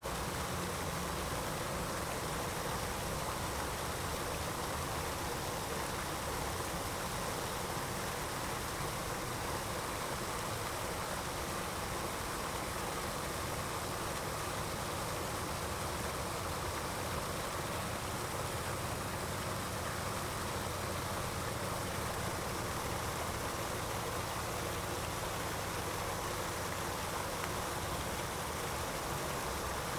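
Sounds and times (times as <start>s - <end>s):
steady white noise hiss: 0.0s - 29.9s.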